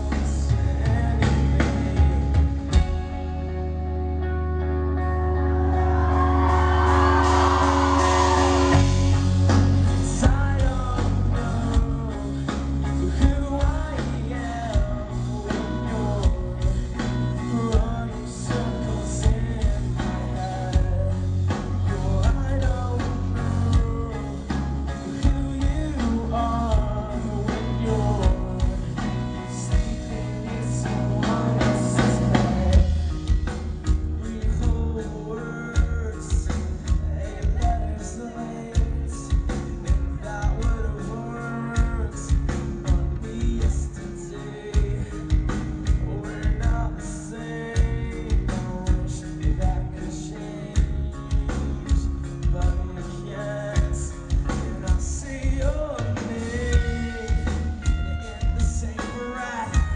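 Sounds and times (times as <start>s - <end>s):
steady drum beat: 0.0s - 3.4s, 6.2s - 47.2s, 47.8s - 50.1s, 50.8s - 59.9s
live rock band playing: 0.0s - 59.9s.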